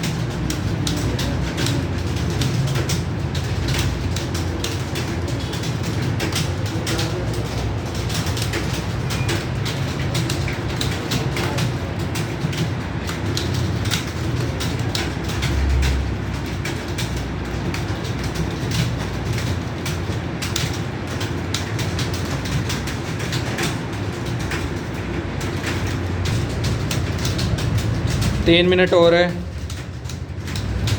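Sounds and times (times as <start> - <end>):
keyboards typing clatter: 0.0 - 30.9.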